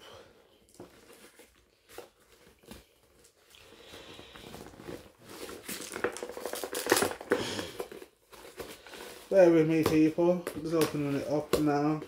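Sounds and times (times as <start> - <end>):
wrapping rustling and crinkling: 0.4 - 12.0.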